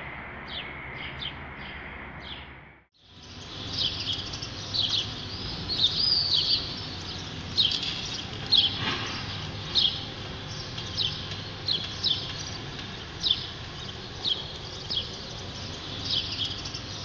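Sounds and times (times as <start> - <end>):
low street hum: 0.0 - 17.0
small bird chirping: 3.1 - 17.0.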